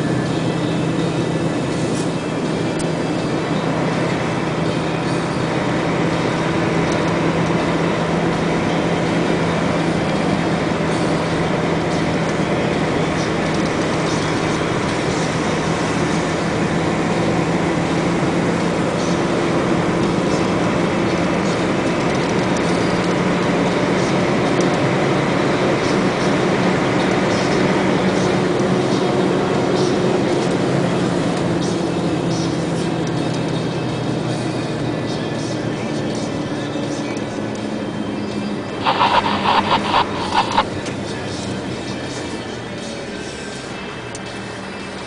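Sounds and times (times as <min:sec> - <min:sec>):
vehicle engine and road drone: 0:00.0 - 0:45.0.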